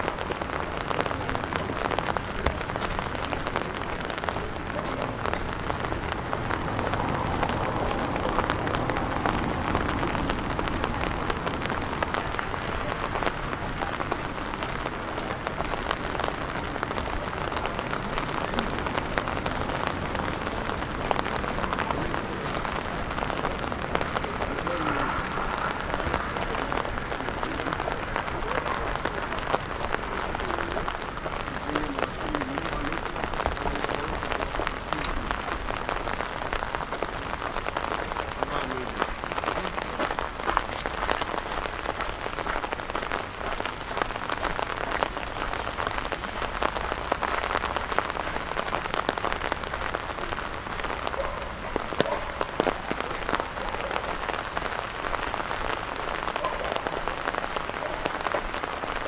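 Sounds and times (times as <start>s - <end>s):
rain pattering on hard surfaces: 0.0s - 59.0s.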